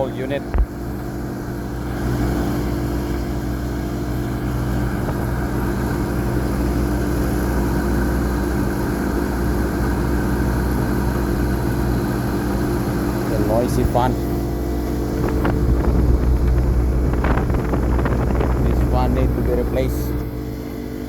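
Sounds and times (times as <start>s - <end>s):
air conditioner fan humming: 0.0s - 21.0s.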